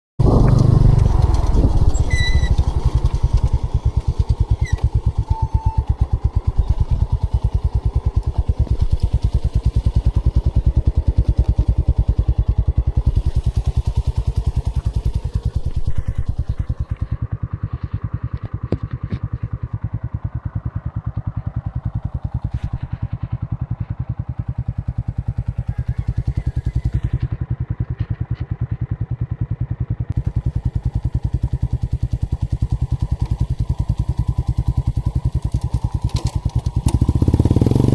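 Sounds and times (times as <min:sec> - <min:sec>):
engine running steadily: 0:00.2 - 0:37.9.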